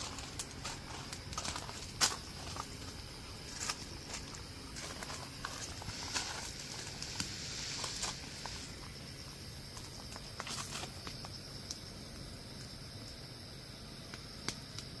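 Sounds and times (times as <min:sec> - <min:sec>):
campfire crackling: 0:00.0 - 0:15.0
soft hiss: 0:00.0 - 0:15.0.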